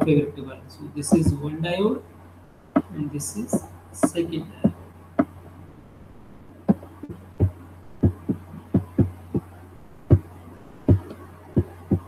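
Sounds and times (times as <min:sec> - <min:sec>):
steady low hum: 0:00.0 - 0:12.0
soft low thumps: 0:01.0 - 0:12.0.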